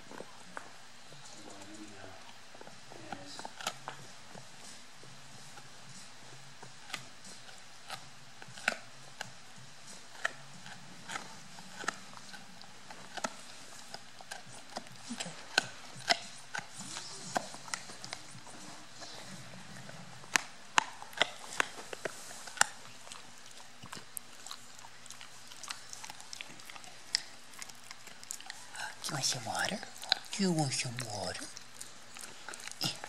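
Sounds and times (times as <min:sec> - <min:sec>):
dog gnawing a chew: 0:00.0 - 0:33.0.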